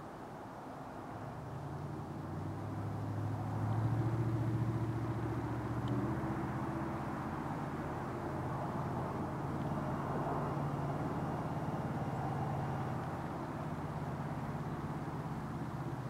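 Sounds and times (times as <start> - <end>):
low pulsing engine hum: 1.2 - 16.0.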